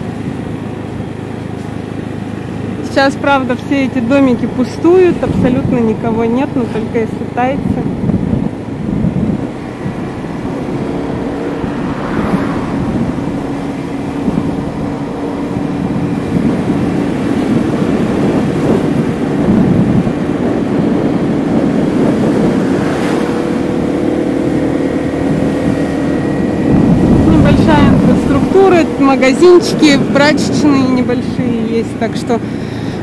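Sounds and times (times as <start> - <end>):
wind on microphone: 3.1 - 32.4.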